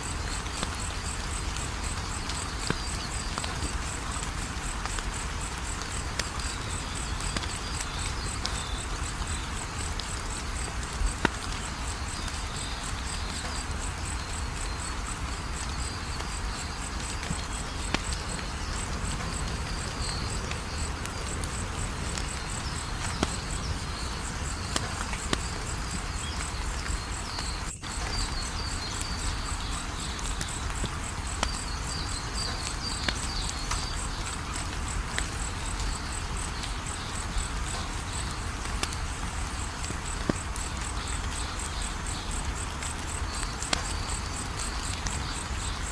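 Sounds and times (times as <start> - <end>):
crickets chirping: 0.0 - 45.9
wood fire crackling: 0.0 - 45.9.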